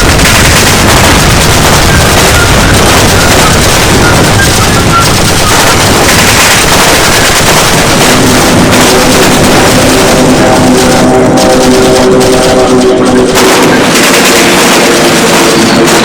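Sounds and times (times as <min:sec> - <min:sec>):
dense gunfire: 0:00.0 - 0:16.0.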